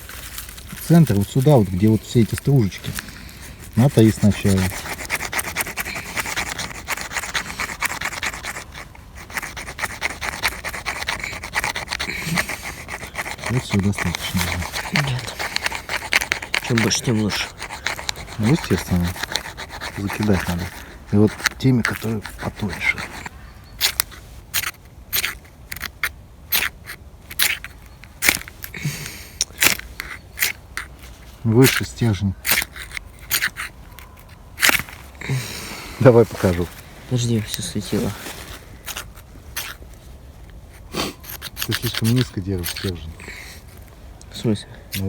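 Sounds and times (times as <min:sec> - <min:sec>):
striker scraping fire-starter rod: 0:00.0 - 0:45.0.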